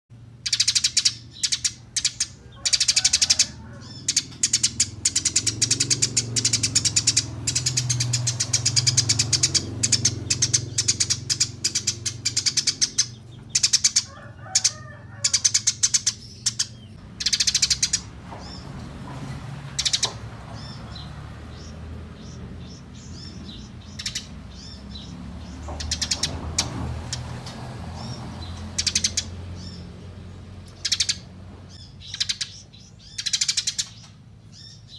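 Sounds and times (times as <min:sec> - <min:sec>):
sparrows chirping: 0:00.2 - 0:34.9.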